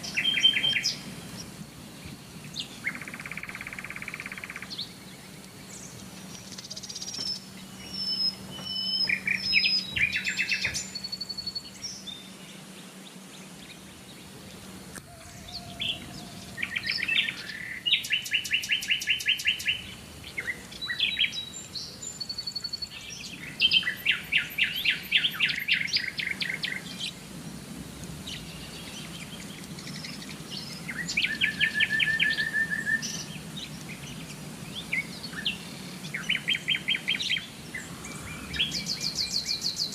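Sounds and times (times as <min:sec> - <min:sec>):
faint steady hum: 0:00.0 - 0:39.9
songbirds chirping and trilling: 0:00.0 - 0:39.9.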